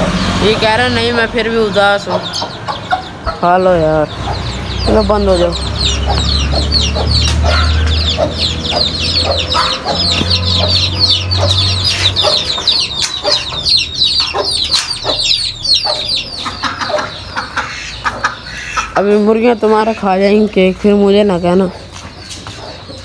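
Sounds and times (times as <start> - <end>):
chickens clucking: 0.0 - 23.0
small birds chirping: 0.0 - 23.0.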